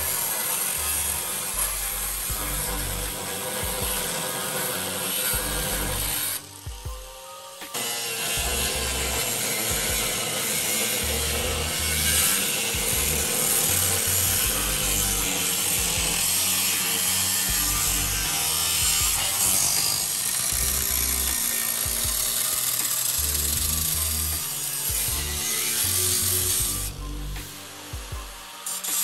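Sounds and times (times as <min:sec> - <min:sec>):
angle grinder cutting steel: 0:00.0 - 0:29.0
background music with bass: 0:00.0 - 0:29.0.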